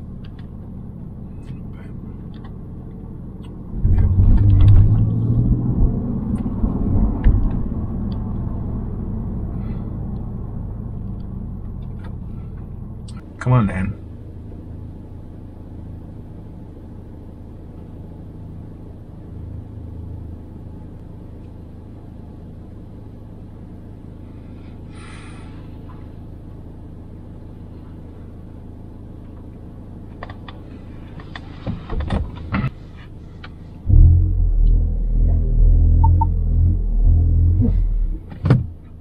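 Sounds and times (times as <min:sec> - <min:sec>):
car engine idling: 0:00.0 - 0:05.0, 0:05.9 - 0:39.0.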